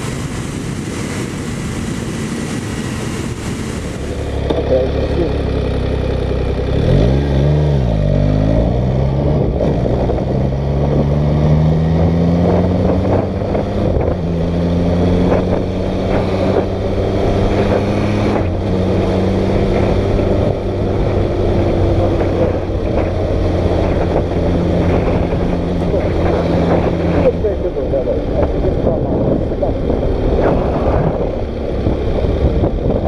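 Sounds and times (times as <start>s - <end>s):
wind rush on microphone: 0.0s - 4.4s, 8.9s - 33.0s
motorcycle engine running: 0.0s - 33.0s.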